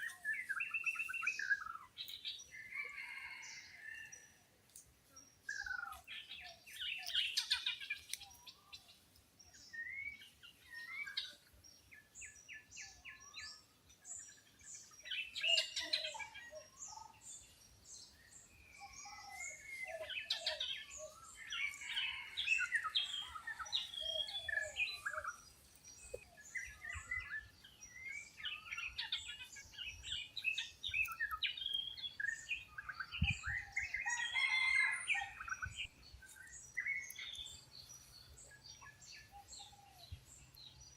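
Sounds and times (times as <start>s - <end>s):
birds chirping and trilling: 0.0s - 4.4s, 5.1s - 40.9s.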